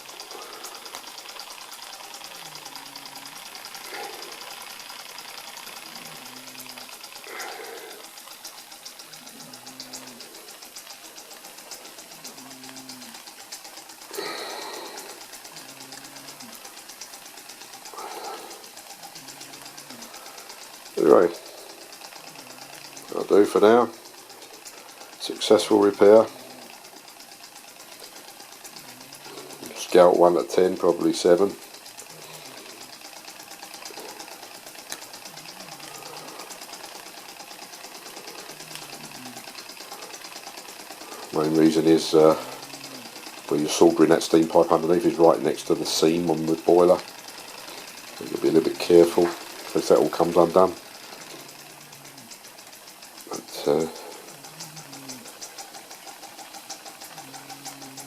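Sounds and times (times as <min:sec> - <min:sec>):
steam hiss: 0:00.0 - 0:26.7, 0:28.0 - 0:58.0
steam engine ticking: 0:00.0 - 0:58.0.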